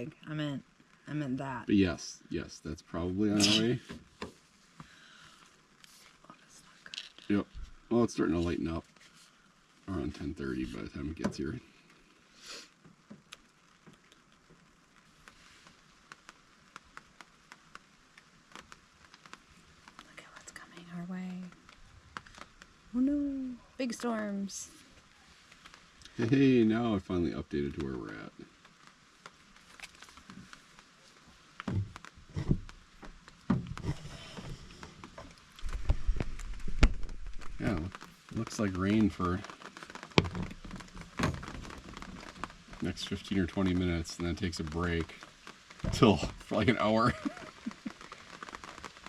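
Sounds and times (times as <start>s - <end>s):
raindrops ticking: 0.0s - 49.0s
soft rain hiss: 0.0s - 49.0s.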